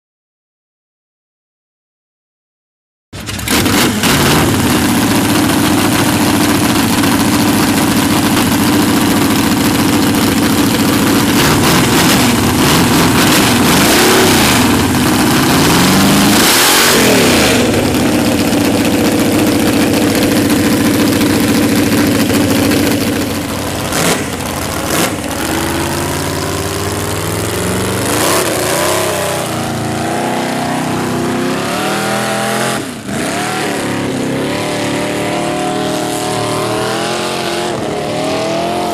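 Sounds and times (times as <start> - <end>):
buggy engine idling and revving: 3.2 - 38.9
engine straining through mud: 3.2 - 38.9.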